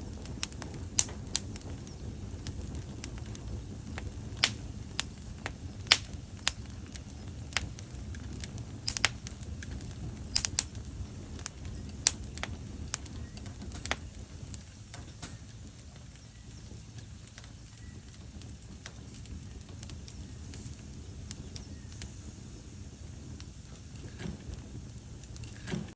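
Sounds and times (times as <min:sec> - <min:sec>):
low steady rumble: 0:00.0 - 0:25.9
wood fire crackling: 0:00.0 - 0:25.9.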